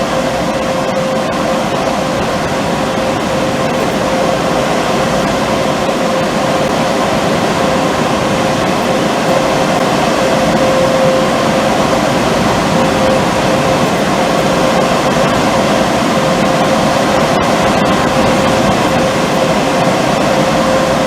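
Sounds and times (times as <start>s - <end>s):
car wash equipment rushing: 0.0s - 21.0s
faint steady hum: 0.0s - 21.0s.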